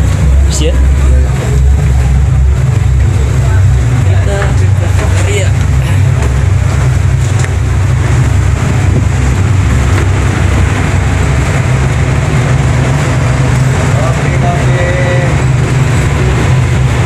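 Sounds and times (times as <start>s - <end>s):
ship machinery rumble: 0.0s - 17.0s
wind buffeting the microphone: 0.0s - 17.0s.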